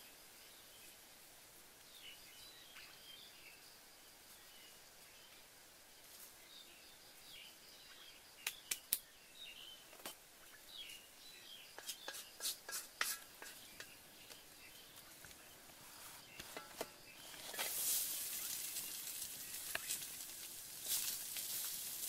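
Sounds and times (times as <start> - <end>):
faint bird chirps: 1.8 - 20.3.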